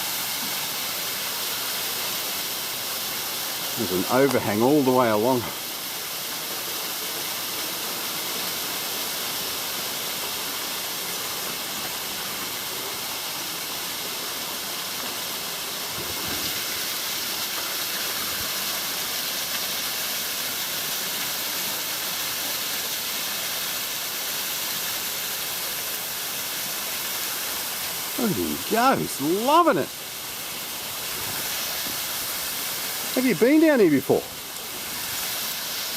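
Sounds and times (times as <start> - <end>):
waterfall rushing over rock: 0.0 - 35.9.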